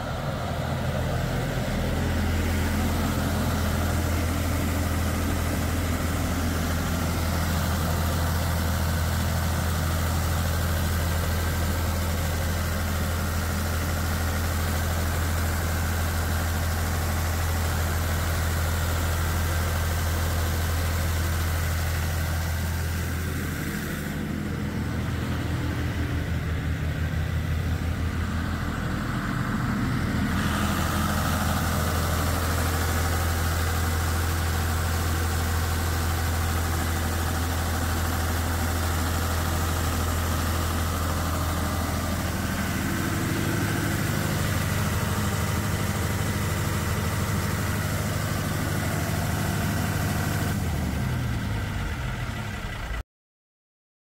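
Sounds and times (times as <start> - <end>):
diesel generator engine running: 0.0 - 53.0.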